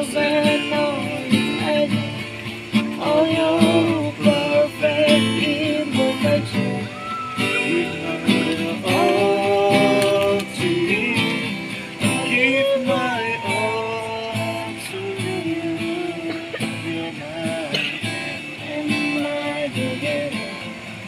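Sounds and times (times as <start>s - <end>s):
strummed acoustic guitar: 0.0s - 21.0s
person singing: 3.0s - 20.7s.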